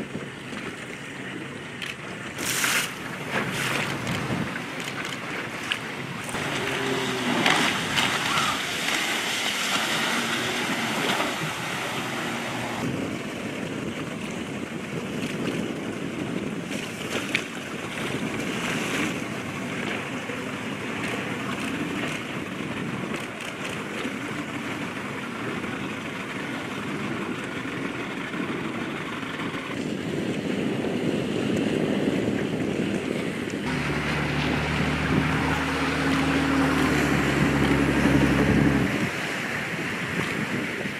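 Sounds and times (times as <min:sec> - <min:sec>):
sea water splashing: 0:00.0 - 0:32.1, 0:32.7 - 0:40.9
wind: 0:00.0 - 0:40.9
low engine hum: 0:03.0 - 0:15.6, 0:17.9 - 0:40.9.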